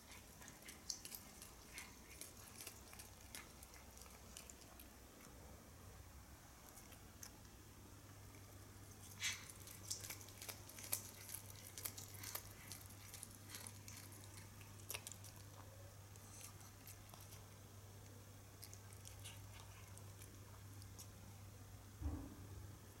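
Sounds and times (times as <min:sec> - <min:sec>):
cat chewing grass: 0:00.0 - 0:21.6.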